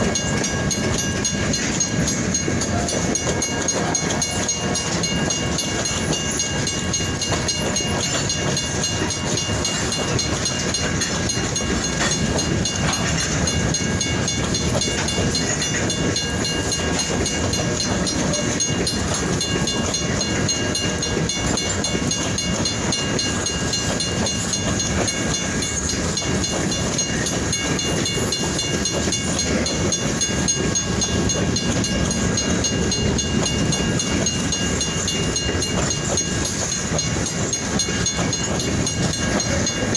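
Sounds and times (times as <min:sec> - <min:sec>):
freight train wheels clattering on rail: 0:00.0 - 0:39.9.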